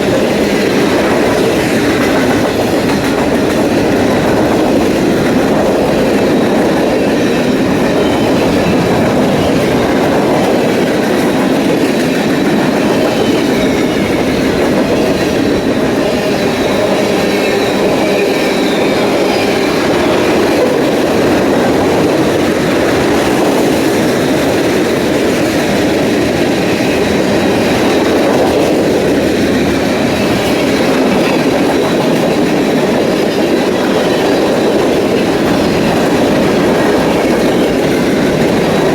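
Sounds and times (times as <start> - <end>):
train wheels rumbling and clacking: 0.0 - 38.9.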